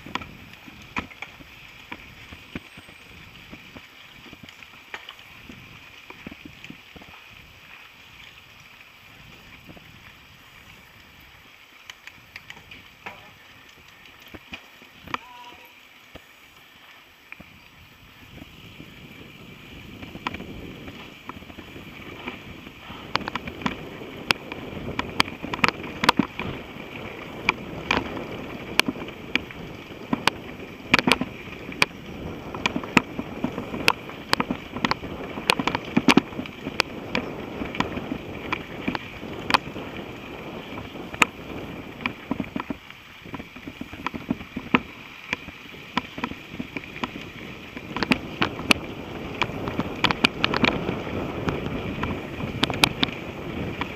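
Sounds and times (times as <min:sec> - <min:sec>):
bike rattling over bumps: 0:00.0 - 0:53.9
bike tyres rumbling on dirt: 0:00.0 - 0:53.9.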